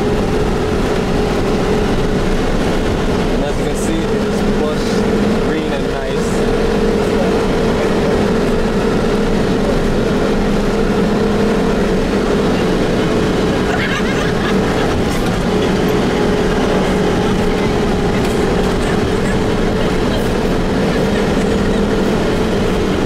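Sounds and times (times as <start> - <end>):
tyre noise on dirt road: 0.0 - 23.0
vehicle engine humming: 0.0 - 23.0.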